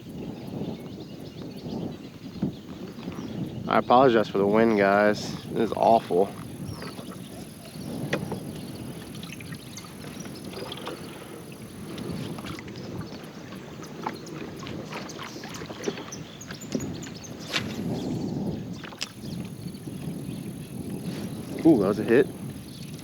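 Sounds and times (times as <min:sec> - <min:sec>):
strong wind: 0:00.0 - 0:23.0
water lapping against kayak hull: 0:00.5 - 0:23.0.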